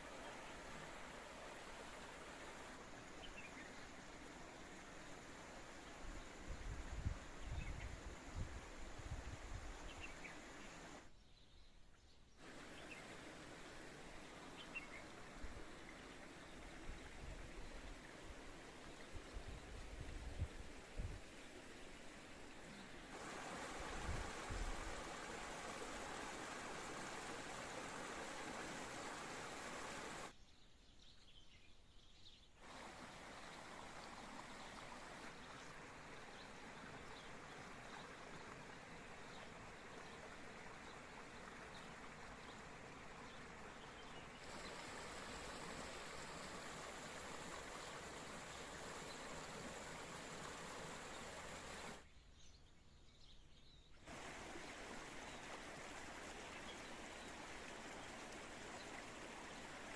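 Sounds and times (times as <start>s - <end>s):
spring water rushing: 0.0s - 7.2s, 12.4s - 30.3s, 32.6s - 52.0s, 54.1s - 59.9s
outdoor background hiss: 0.0s - 59.9s.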